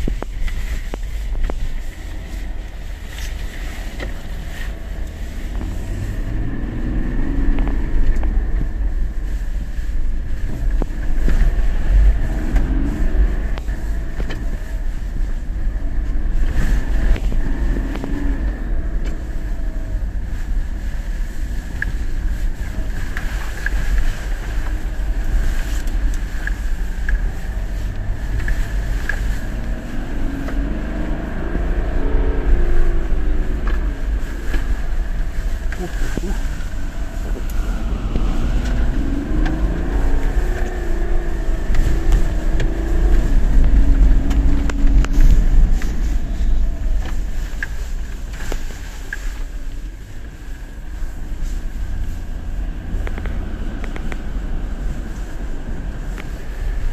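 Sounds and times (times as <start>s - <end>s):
engine and tyres rumbling: 0.0s - 56.9s.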